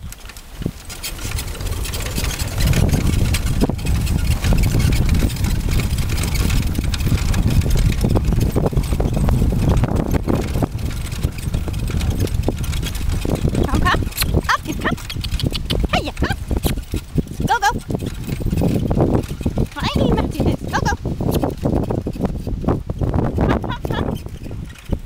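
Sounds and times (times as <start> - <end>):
cart rolling over dirt track: 0.0 - 25.0
metal cart frame rattling: 0.0 - 25.0.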